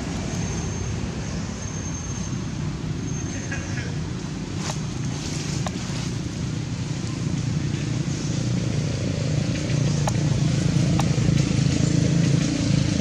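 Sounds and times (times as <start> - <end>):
passing vehicle engine rumble: 0.0 - 13.0.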